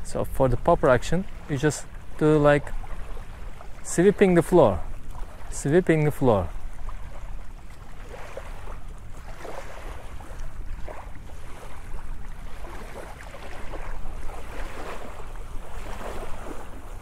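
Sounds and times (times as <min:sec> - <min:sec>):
small waves lapping on shore: 0:00.0 - 0:17.0.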